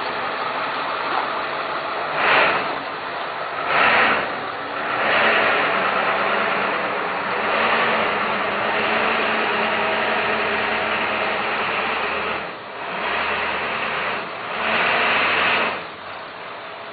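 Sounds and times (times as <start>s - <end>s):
vehicle engine idling: 0.0s - 16.9s.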